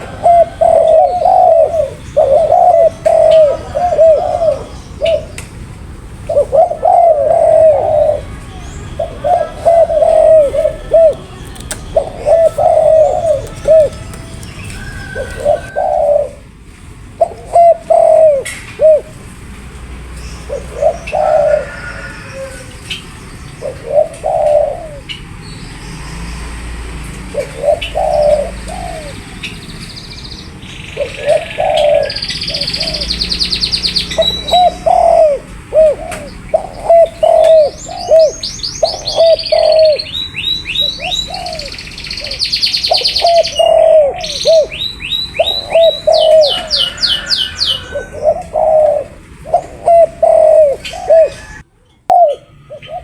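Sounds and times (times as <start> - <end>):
small birds chirping: 0.0 - 16.4, 17.2 - 53.0
dove cooing: 0.0 - 25.3, 27.2 - 29.6, 31.0 - 53.0.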